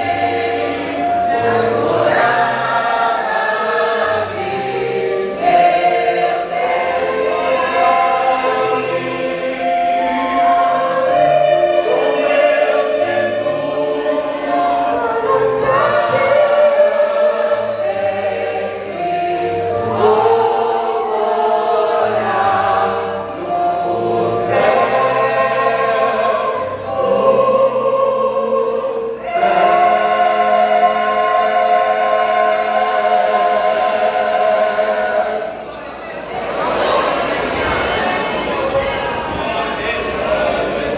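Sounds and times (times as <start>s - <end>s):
band playing: 0.0s - 35.8s
vocal group singing a hymn: 0.0s - 40.9s.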